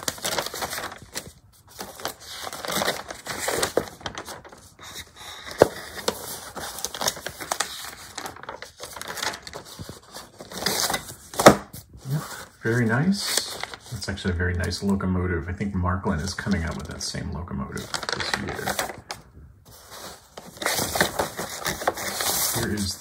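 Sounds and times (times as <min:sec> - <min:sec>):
paper pages rustling: 0:00.0 - 0:15.0, 0:16.2 - 0:23.0.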